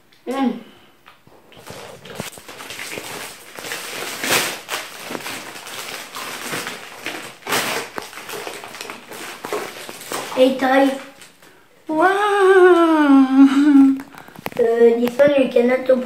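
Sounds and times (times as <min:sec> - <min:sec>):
foil wrapper crinkling: 0:01.3 - 0:12.0, 0:13.5 - 0:16.0.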